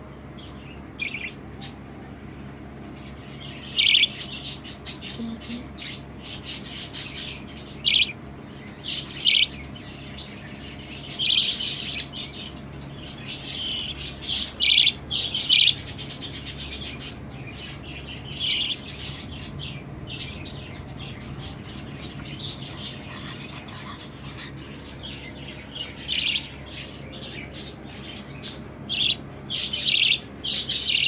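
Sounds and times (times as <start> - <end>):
budgerigars chirping: 0.4 - 1.8, 3.0 - 31.0
sharp bird calls: 3.0 - 31.0.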